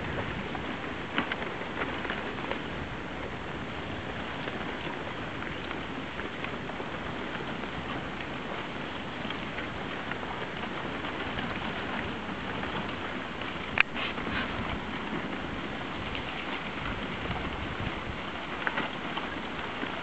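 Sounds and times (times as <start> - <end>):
crackling hiss of drift ice: 0.0 - 20.0.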